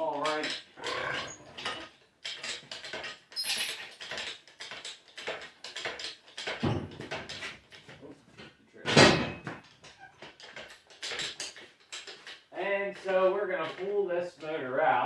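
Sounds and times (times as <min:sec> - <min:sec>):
metal tools clattering: 0:00.0 - 0:14.6.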